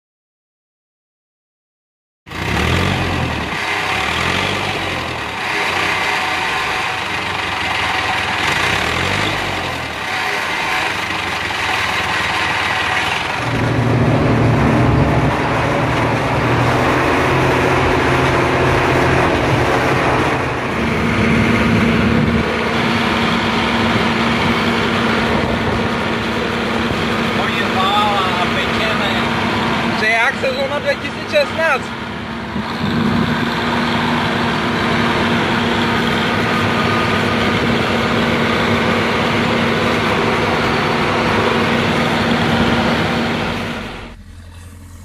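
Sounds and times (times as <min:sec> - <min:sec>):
tractor diesel engines running: 0:02.3 - 0:45.0.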